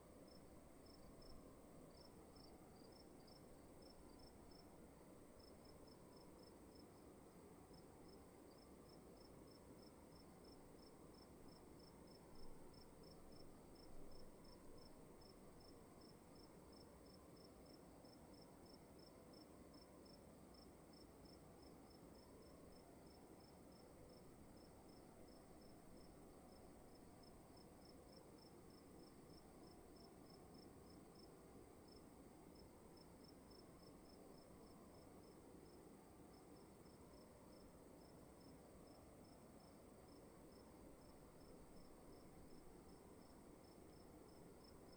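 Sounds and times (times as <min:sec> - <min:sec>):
crickets chirping: 0:00.3 - 0:44.9.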